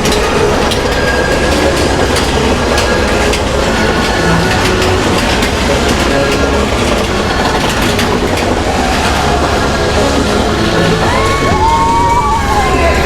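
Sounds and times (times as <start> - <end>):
roller coaster rattling and rushing: 0.0 - 13.0.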